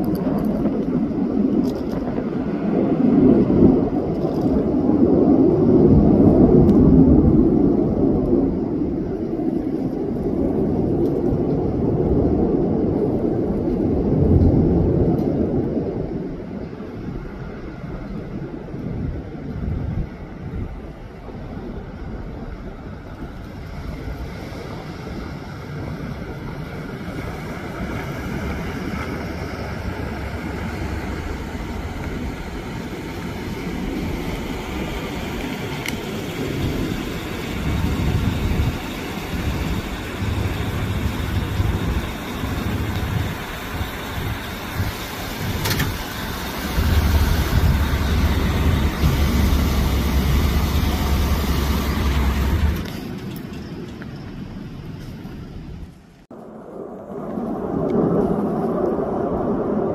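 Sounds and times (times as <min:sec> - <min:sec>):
distant jet engine rush: 0:00.0 - 0:59.9
wind gusts on microphone: 0:00.0 - 0:59.9.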